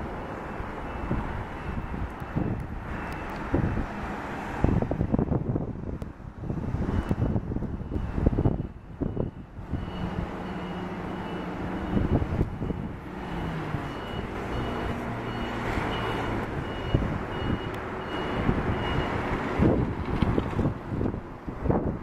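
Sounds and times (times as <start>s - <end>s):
bus diesel engine passing: 0.0s - 22.0s
wind gusts on microphone: 0.1s - 22.0s.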